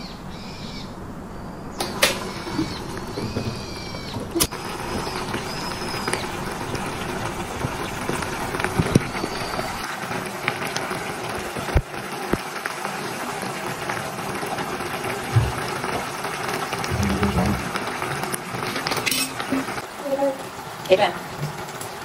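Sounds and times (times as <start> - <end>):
sauce bubbling and crackling: 2.2 - 22.0.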